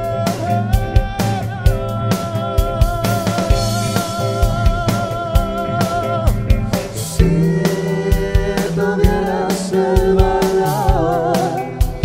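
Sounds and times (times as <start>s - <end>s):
song with singing and drums: 0.0s - 12.0s.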